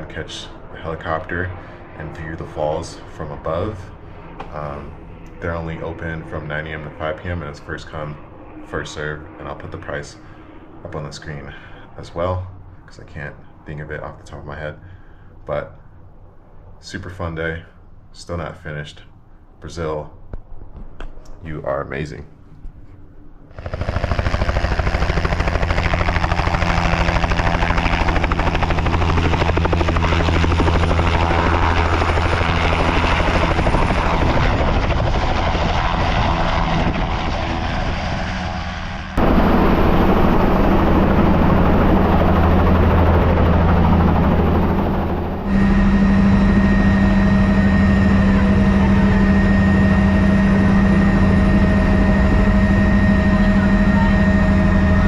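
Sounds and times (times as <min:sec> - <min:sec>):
helicopter engine and rotor: 0:00.0 - 0:12.9, 0:23.0 - 0:55.0.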